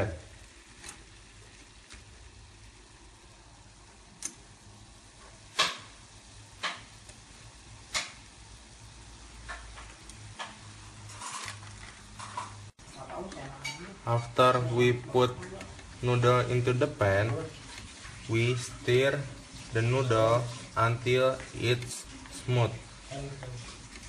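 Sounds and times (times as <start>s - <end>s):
boiling water bubbling: 0.0s - 24.0s.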